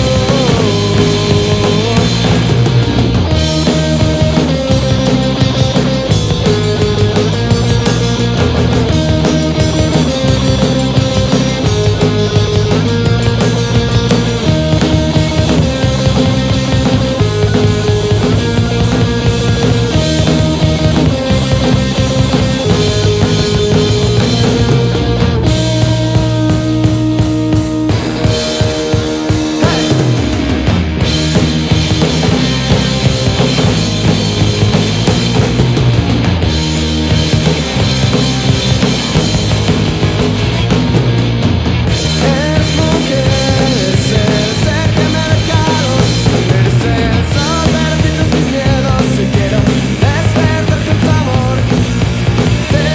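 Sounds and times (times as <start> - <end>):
bending guitar lead line: 0.0 - 52.9
rock band playing: 0.0 - 52.9.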